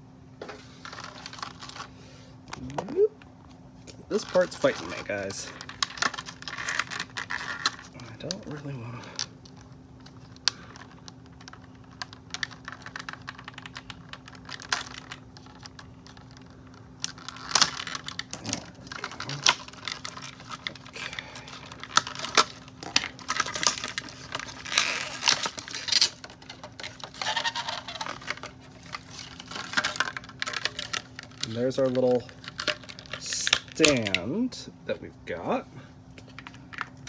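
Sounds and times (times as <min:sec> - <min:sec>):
faint steady hum: 0:00.0 - 0:37.0
plastic packaging crackling: 0:00.8 - 0:03.1, 0:04.1 - 0:34.5.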